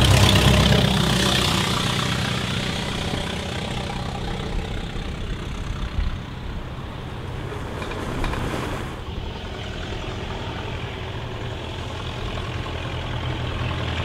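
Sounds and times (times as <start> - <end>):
old car engines driving past: 0.0 - 14.0.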